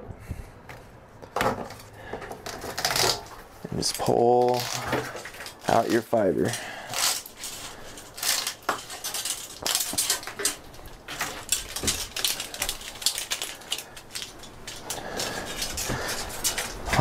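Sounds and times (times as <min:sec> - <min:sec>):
cable rustling and scraping: 0:00.7 - 0:17.0.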